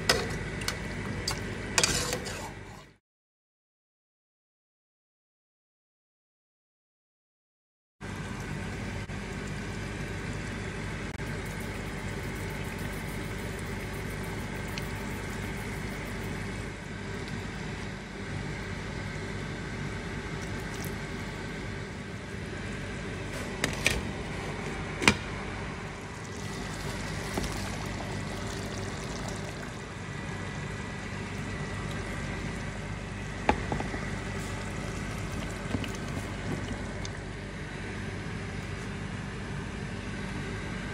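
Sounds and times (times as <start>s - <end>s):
steady hum: 8.0s - 40.9s.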